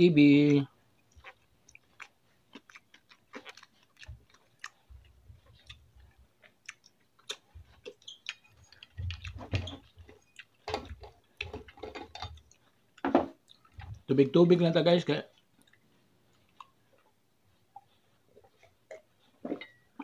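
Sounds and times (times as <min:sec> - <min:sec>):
person chewing and lip-smacking: 0:00.4 - 0:14.1, 0:15.3 - 0:20.0.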